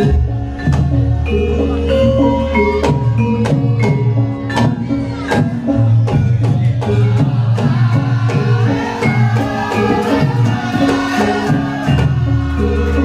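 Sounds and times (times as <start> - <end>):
heavy bass: 0.0 - 13.0
percussion strokes: 0.0 - 13.0.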